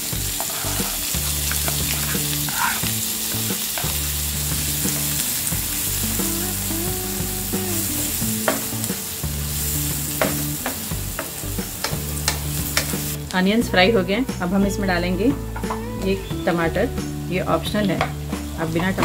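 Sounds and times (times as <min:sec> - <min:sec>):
onion sizzling in hot oil: 0:00.0 - 0:13.8, 0:15.2 - 0:19.0.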